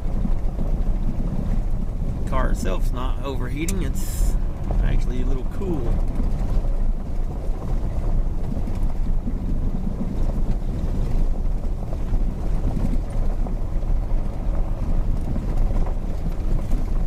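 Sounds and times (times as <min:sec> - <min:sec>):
car engine rumble: 0:00.0 - 0:17.0
road noise: 0:00.0 - 0:17.0
wind buffeting: 0:00.0 - 0:17.0.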